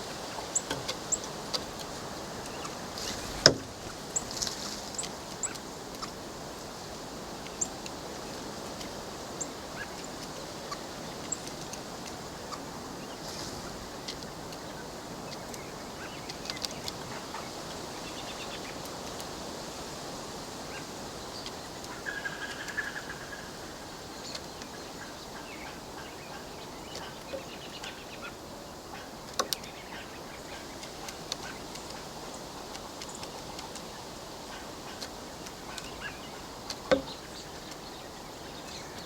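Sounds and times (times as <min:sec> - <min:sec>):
steady background hiss: 0:00.0 - 0:39.0.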